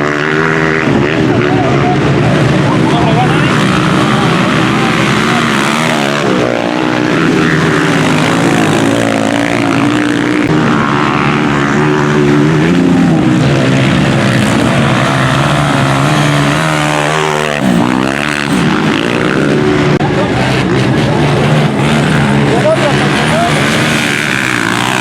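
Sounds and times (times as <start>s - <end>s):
motorcycle engines racing: 0.0s - 25.0s.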